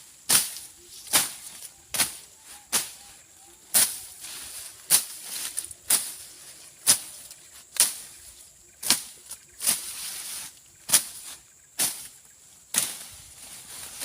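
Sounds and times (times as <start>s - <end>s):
blade swishing through grass: 0.2s - 14.0s.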